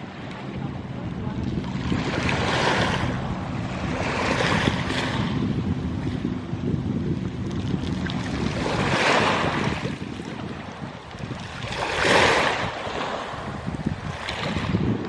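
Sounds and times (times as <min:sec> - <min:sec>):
sea waves washing ashore: 0:00.0 - 0:15.0
wind rumbling on microphone: 0:00.0 - 0:15.0.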